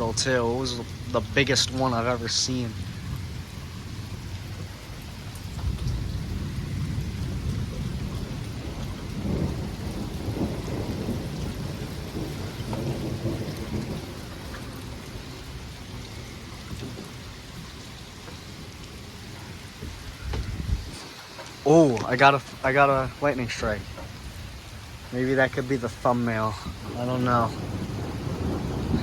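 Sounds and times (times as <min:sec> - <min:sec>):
heavy rain: 0:00.0 - 0:29.0
rolling thunder rumble: 0:00.0 - 0:29.0.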